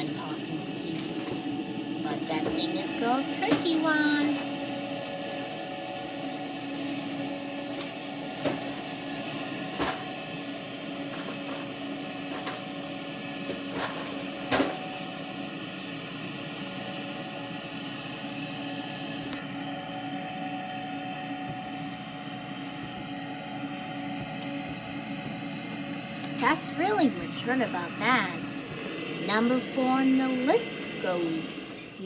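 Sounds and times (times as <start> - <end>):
combine harvester engine drone: 0.0 - 32.0.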